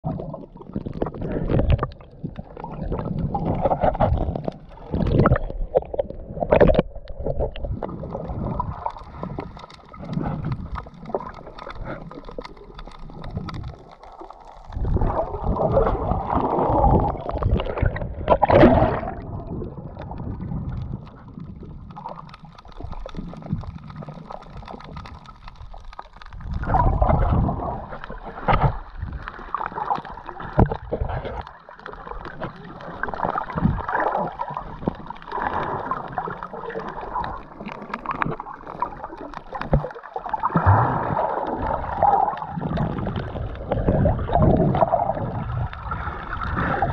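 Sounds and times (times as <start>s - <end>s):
muffled underwater water sloshing: 0.0s - 46.9s.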